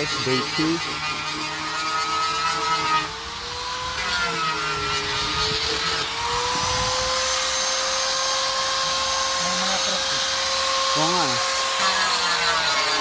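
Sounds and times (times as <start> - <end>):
power tool motor whining: 0.0 - 13.0.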